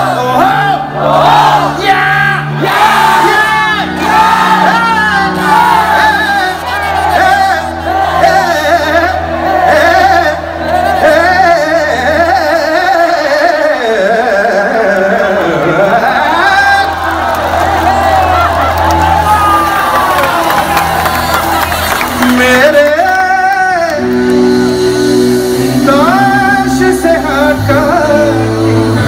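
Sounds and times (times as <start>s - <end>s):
singer's ornamented vocals: 0.0s - 17.1s, 22.0s - 29.0s.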